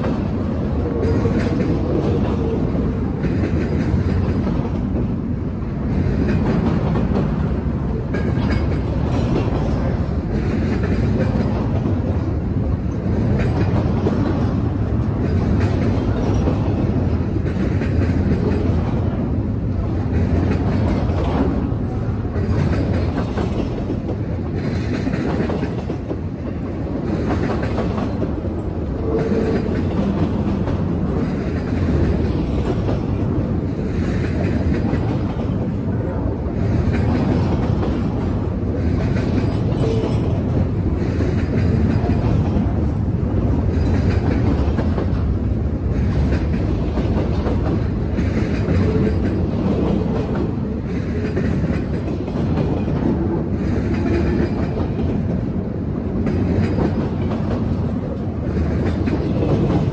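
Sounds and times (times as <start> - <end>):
freight train rumbling: 0.0 - 59.9
wheels clattering over rail joints: 5.8 - 36.0, 36.6 - 55.5.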